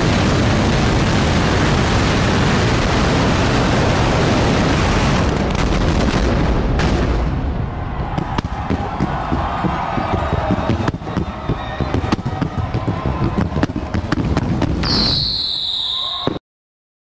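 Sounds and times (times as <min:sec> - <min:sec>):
fireworks barrage: 0:00.0 - 0:16.4
separate firework bangs: 0:00.0 - 0:16.4.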